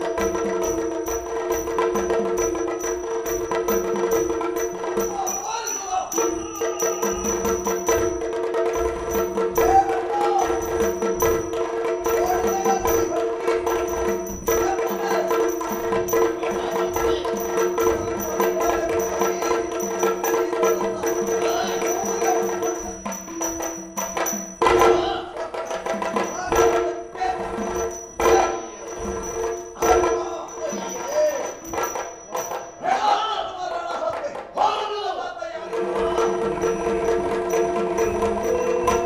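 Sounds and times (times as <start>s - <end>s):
sharp drum strikes: 0.0s - 32.9s
fast drum playing: 0.0s - 33.1s, 35.6s - 39.0s.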